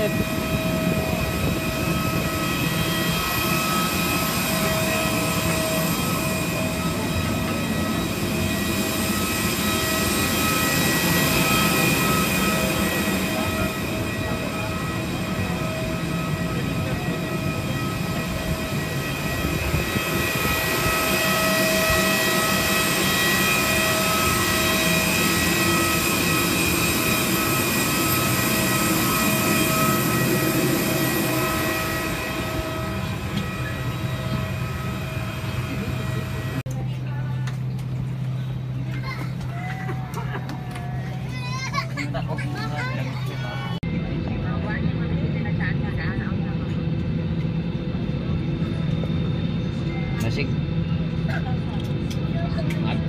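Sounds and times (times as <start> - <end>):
airliner engine drone and whine: 0.0 - 53.0.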